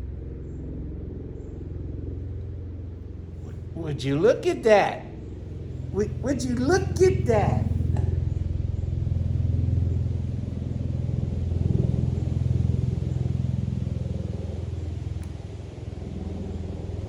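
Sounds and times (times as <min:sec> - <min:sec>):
low pulsing motor rumble: 0:00.0 - 0:17.0.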